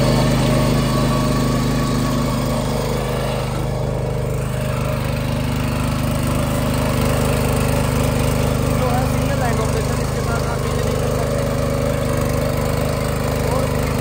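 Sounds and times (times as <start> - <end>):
tiller engine running under load: 0.0 - 14.0.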